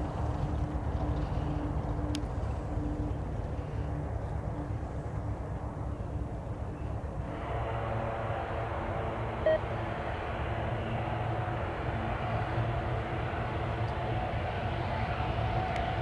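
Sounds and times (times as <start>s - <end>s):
turboprop engine running: 0.0s - 16.0s.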